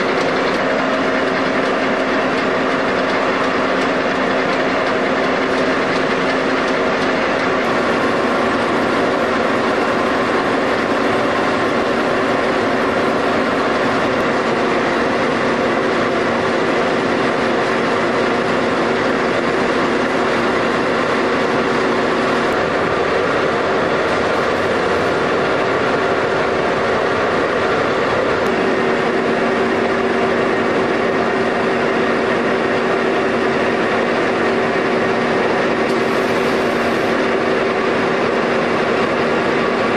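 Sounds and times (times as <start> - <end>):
machine mechanical din: 0.0 - 39.9.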